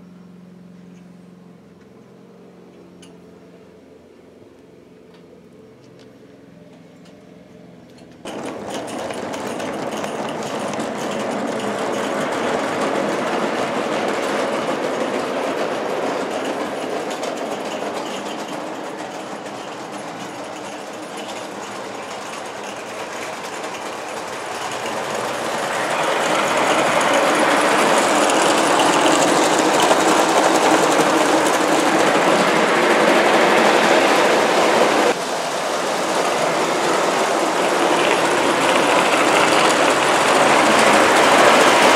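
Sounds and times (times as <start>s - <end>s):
toy train wheels clattering: 8.2s - 41.9s.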